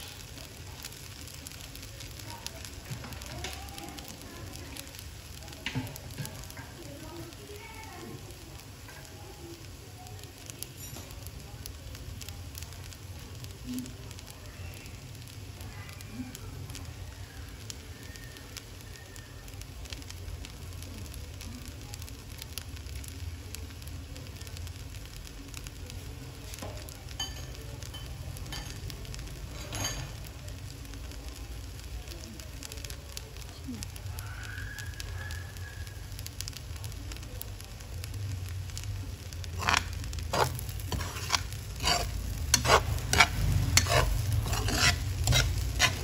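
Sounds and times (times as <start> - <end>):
crackling pops: 0.0 - 46.0
fried rice sizzling in a frying pan: 0.0 - 46.0.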